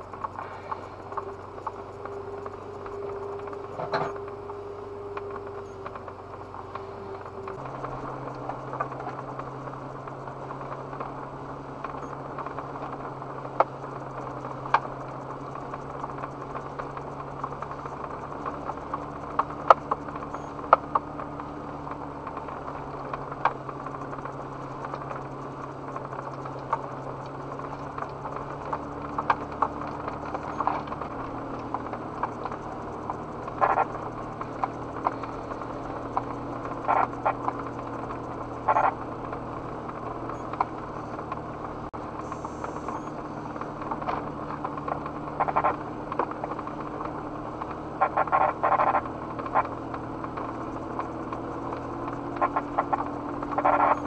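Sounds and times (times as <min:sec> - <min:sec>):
car engine idling and humming: 0:00.0 - 0:54.0
clicks and rattles over rough trail: 0:00.0 - 0:54.0.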